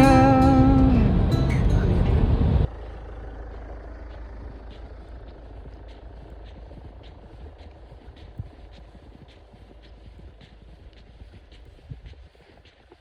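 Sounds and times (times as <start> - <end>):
vehicle engine rumble: 0.0 - 12.8.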